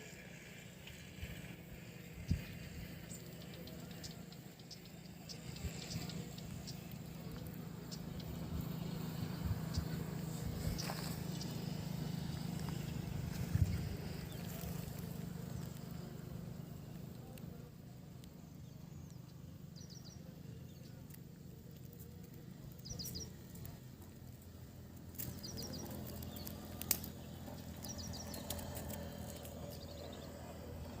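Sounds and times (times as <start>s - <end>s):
low outdoor rumble: 0.0s - 31.0s
small bird chirping: 1.8s - 31.0s.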